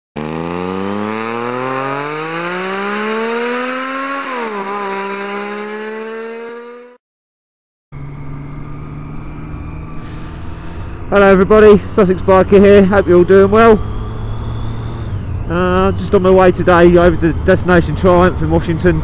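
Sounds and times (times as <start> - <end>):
motorcycle engine accelerating: 0.2 - 7.0, 8.0 - 19.0.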